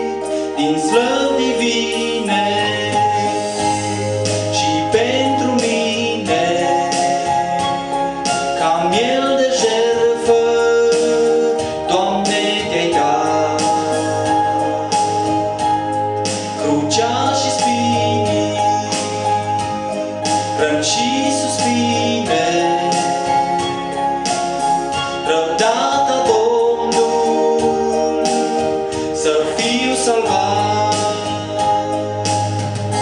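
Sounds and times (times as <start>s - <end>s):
keyboard gospel accompaniment: 0.0s - 33.0s
man singing: 0.0s - 33.0s.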